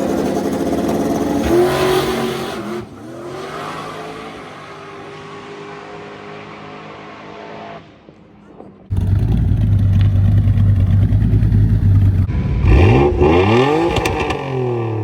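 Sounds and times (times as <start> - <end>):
car engine revving: 0.0 - 8.1, 8.9 - 15.0.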